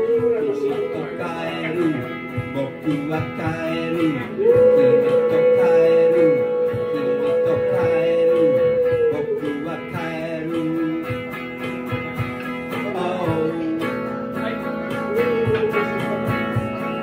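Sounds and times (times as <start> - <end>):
electric guitar chords: 0.0 - 17.0
man singing rock song: 0.0 - 17.0.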